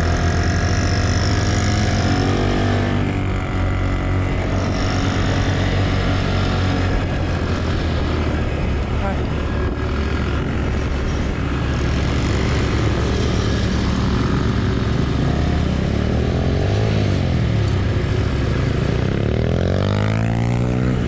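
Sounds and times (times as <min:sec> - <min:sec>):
wind noise: 0:00.0 - 0:19.4
atv engine revving: 0:00.0 - 0:21.0.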